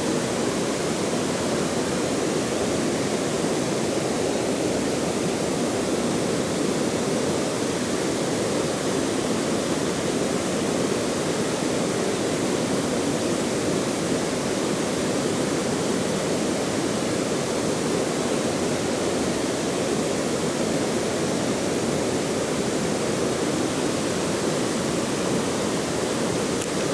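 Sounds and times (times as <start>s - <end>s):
stream water flowing: 0.0s - 26.9s.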